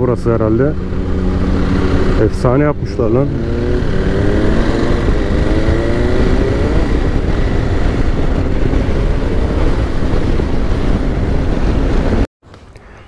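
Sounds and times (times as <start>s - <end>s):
motorcycle engine accelerating: 0.0s - 12.3s
wind rush: 0.0s - 12.3s.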